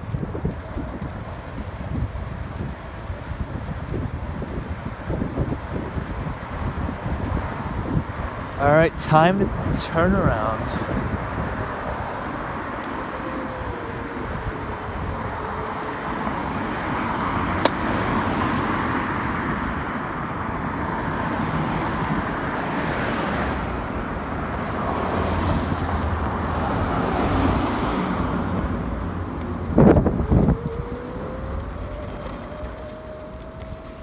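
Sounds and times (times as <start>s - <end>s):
traffic and road noise: 0.0s - 34.0s.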